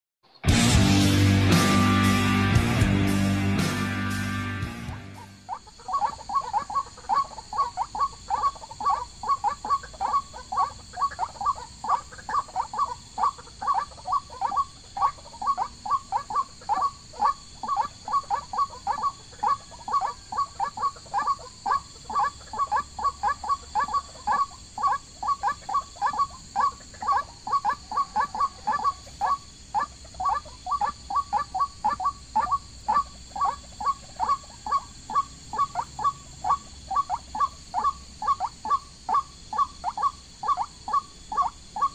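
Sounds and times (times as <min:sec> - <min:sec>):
animal calling repeatedly: 0:04.9 - 0:41.9.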